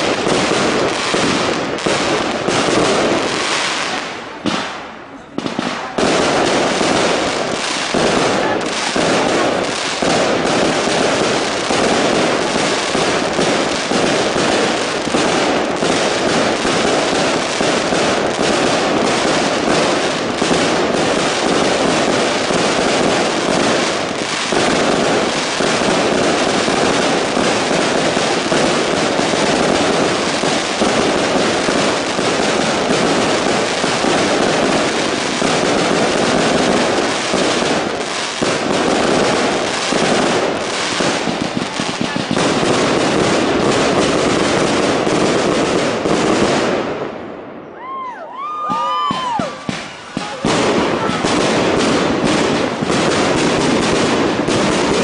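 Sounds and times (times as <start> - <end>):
fireworks banging: 0.0 - 55.0.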